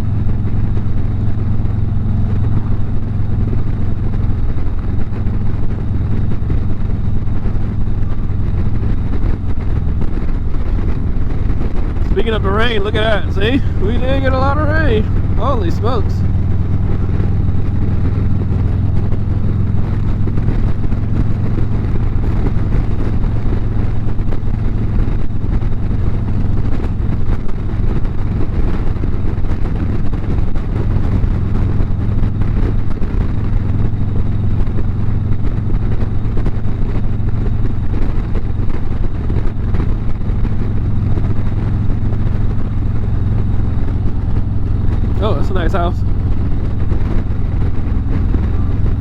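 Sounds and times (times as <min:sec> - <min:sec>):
motorcycle engine cruising: 0:00.0 - 0:49.0.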